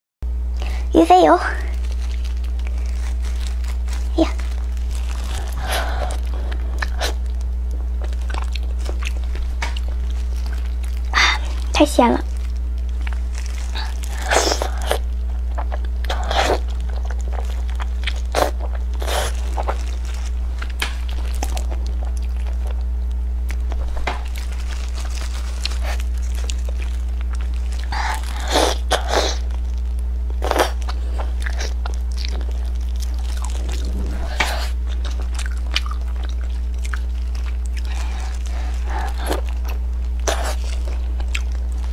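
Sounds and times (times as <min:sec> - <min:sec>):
low electrical hum: 0:00.2 - 0:41.9
biting and chewing food: 0:01.6 - 0:41.9.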